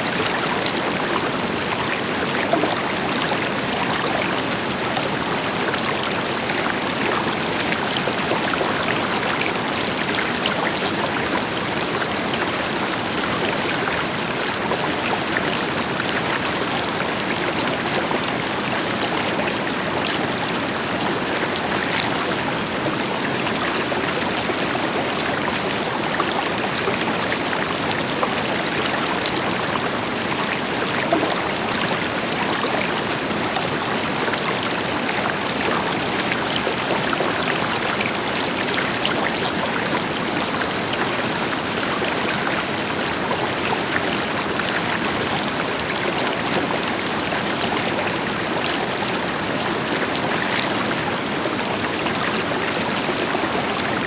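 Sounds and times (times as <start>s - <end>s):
river water splashing over rocks: 0.0s - 54.0s.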